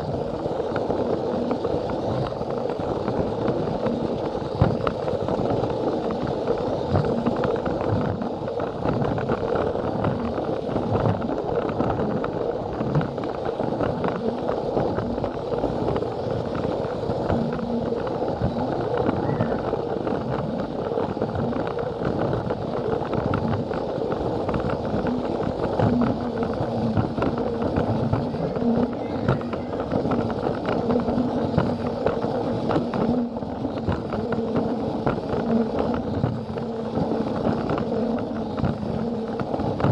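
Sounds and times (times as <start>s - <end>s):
toy train motor hum: 0.0s - 39.8s.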